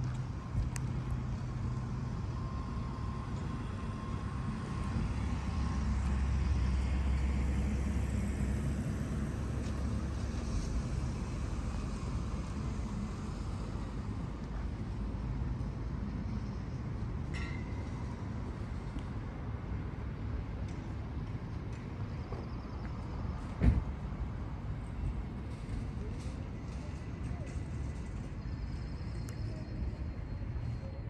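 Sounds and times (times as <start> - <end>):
rumble of motor vehicles: 0.0 - 31.0.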